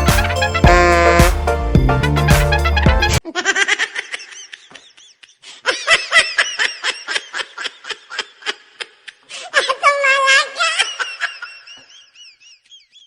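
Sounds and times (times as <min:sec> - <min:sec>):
high-pitched laughter: 0:00.0 - 0:01.3, 0:02.0 - 0:13.0.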